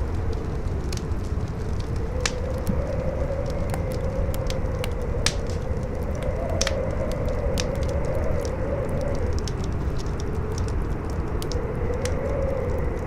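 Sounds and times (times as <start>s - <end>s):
campfire crackling and popping: 0.0s - 13.0s
howling wind: 0.0s - 13.0s.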